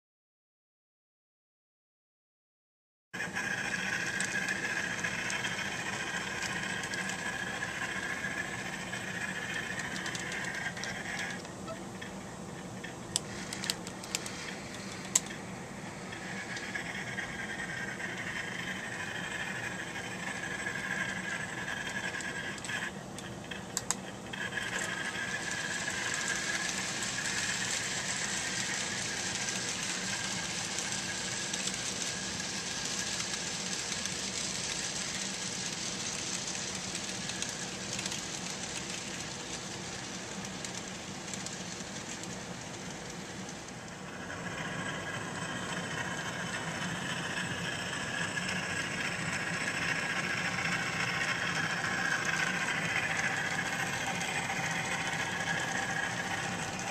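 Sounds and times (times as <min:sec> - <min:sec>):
model train motors whirring: 0:03.2 - 0:56.9.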